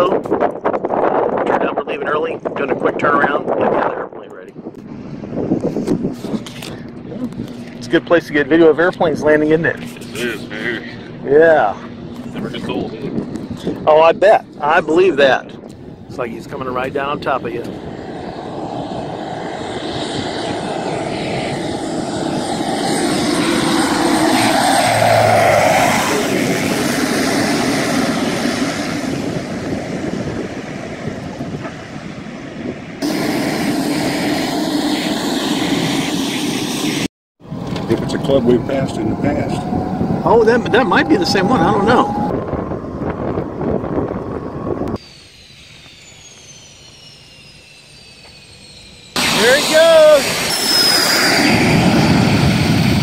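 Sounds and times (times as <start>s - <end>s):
jet engine whine: 0.0s - 53.0s
turboprop plane passing: 0.0s - 53.0s
wind and road rumble: 0.0s - 53.0s.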